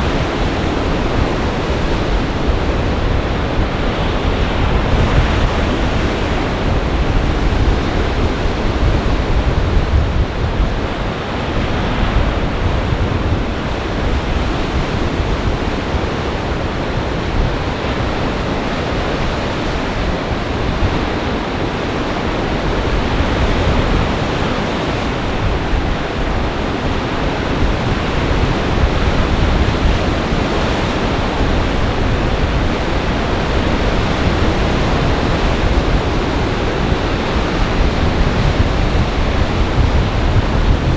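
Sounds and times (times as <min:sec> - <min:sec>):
waves washing: 0:00.0 - 0:40.9
wind rumble on microphone: 0:00.0 - 0:40.9.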